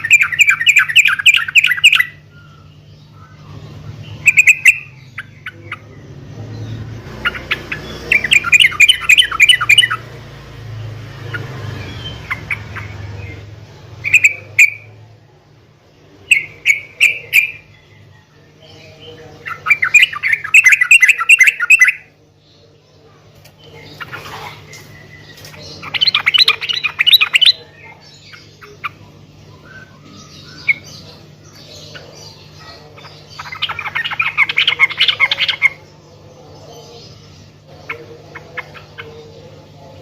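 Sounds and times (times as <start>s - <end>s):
bird chattering calls: 0.0s - 10.2s, 11.1s - 15.0s, 16.2s - 18.2s, 19.2s - 22.2s, 23.5s - 40.0s
steady low hum: 0.0s - 40.0s.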